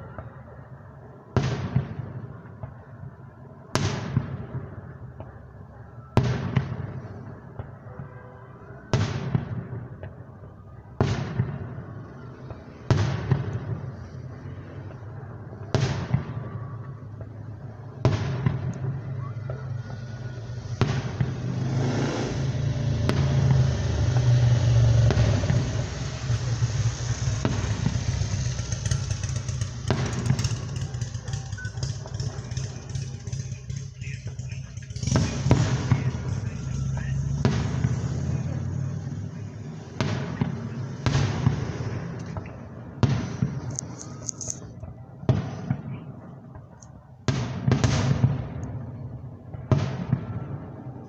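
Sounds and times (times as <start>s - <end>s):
fireworks bangs: 0.0s - 51.0s
fireworks rumbling: 0.0s - 51.0s
fireworks crackling: 8.9s - 51.0s.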